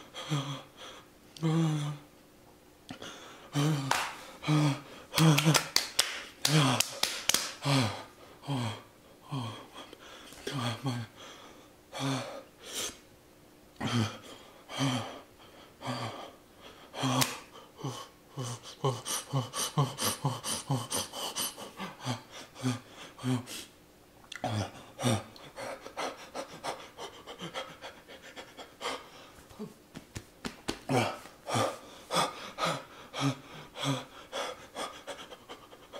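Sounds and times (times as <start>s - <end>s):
man panting and gasping: 0.0s - 2.0s, 2.9s - 13.0s, 13.8s - 23.7s, 24.5s - 29.8s, 30.7s - 35.9s.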